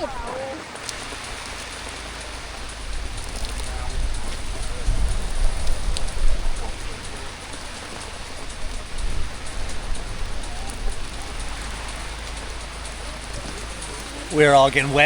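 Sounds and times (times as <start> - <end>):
gusty wind rumble: 0.0 - 15.0
heavy rain pouring: 0.0 - 15.0.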